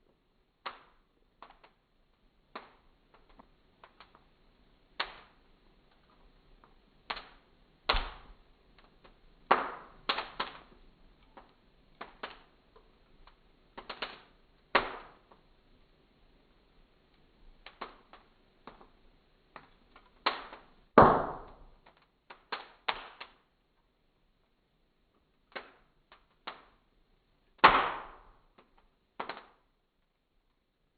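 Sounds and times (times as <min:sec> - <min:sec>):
fire crackling: 0:00.0 - 0:30.9.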